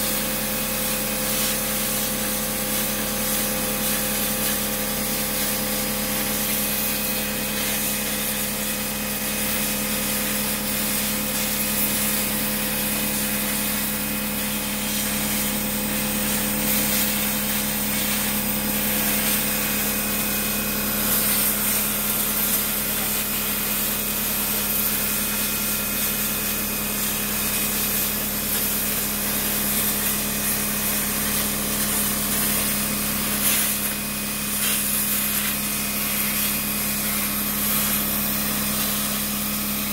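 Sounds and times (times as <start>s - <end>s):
plasma arc hissing: 0.0s - 39.9s.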